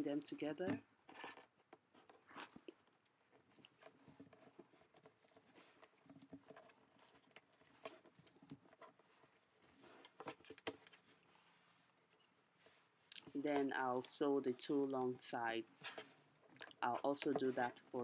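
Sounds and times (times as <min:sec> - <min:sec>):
fabric rustling: 0:03.5 - 0:18.0.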